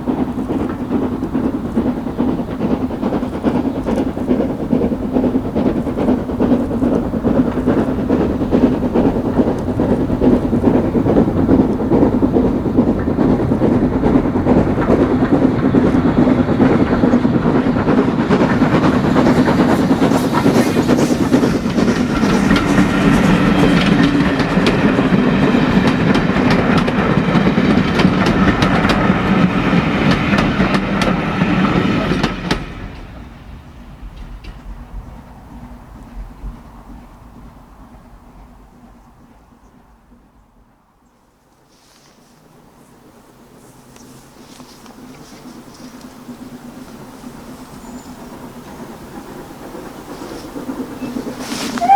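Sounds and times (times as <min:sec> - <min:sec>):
train wheels clattering on rails: 0:00.0 - 0:51.9.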